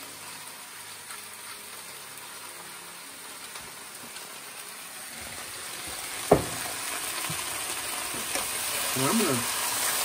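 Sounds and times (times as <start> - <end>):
potatoes frying in a pan: 0.0 - 10.0.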